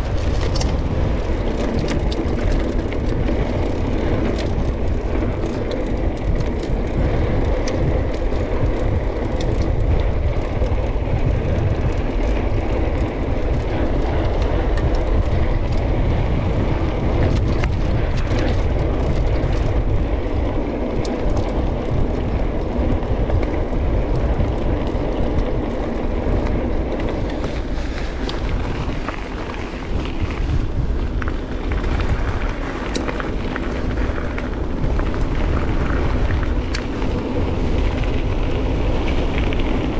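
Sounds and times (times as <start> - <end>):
bike clicks and rattles: 0.0 - 39.9
tyre noise on trail: 0.0 - 39.9
wind rumble on microphone: 0.0 - 39.9.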